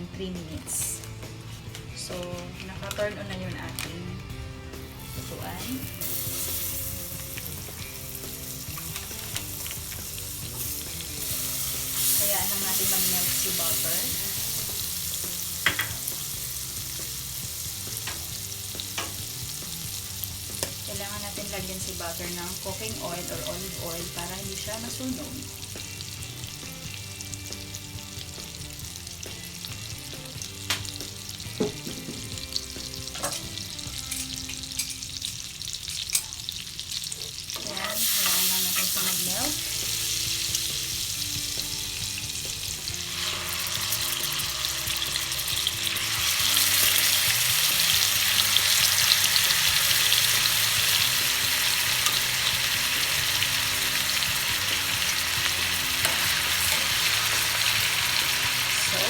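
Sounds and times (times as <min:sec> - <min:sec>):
oil sizzling in a frying pan: 0:04.6 - 0:59.0.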